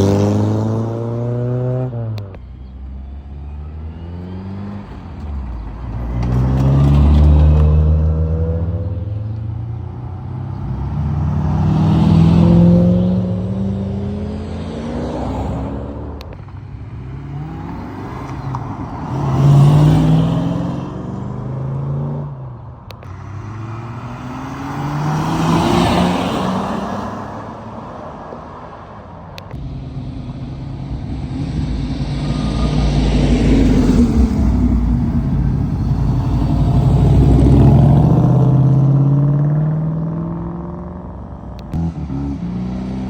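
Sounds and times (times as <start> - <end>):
cars accelerating past: 0.0 - 43.0.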